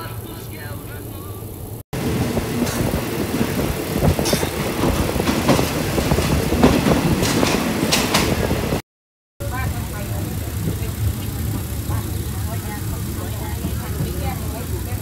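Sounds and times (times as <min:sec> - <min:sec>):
sharp clicks from train wheels: 0:02.0 - 0:08.8, 0:09.4 - 0:15.0
train wheels clattering: 0:02.0 - 0:08.8, 0:09.4 - 0:15.0.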